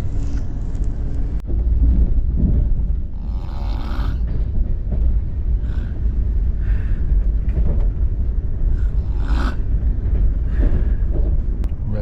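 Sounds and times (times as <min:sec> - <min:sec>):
train coach rumble from inside: 0:00.0 - 0:12.0.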